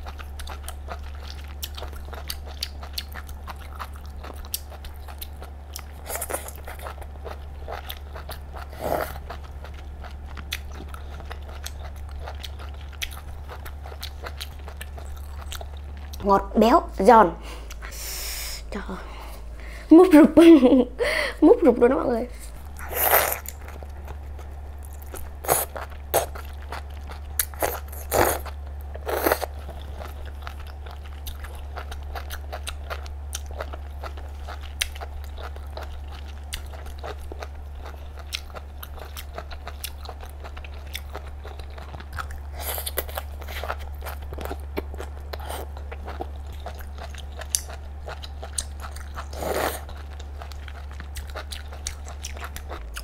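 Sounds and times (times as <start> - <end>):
chewing crunchy food: 0.0 - 16.3, 22.5 - 53.0
steady low hum: 0.0 - 53.0.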